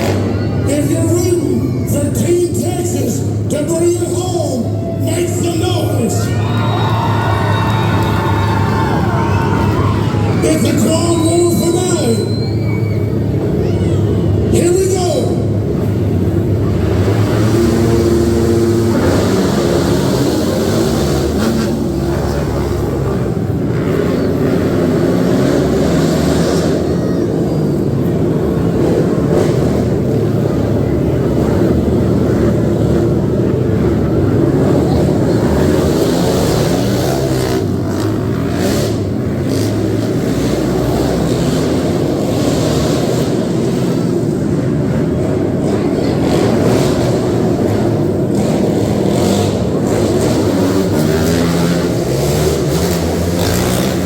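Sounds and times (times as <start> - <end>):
quad engines droning: 0.0 - 54.0.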